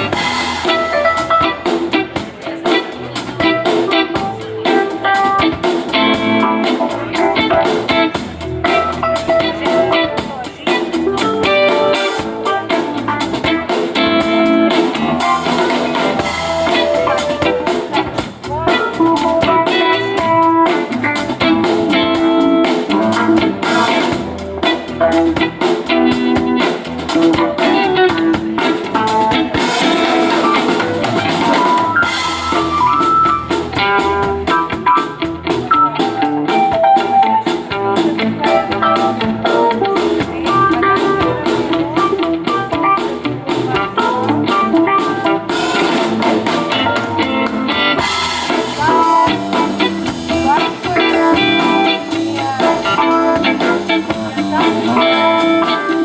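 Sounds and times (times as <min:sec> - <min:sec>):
drum kit playing: 0:00.0 - 0:56.0
electric guitar playing: 0:00.0 - 0:56.0.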